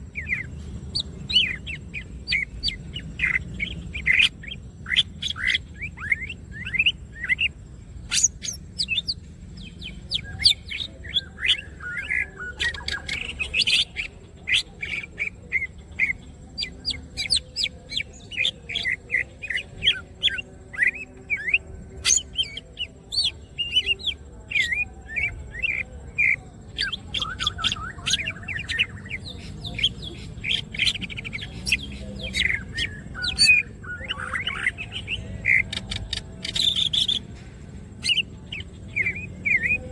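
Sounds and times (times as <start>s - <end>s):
bird singing chirps and whistles: 0.0s - 37.4s, 38.0s - 39.9s.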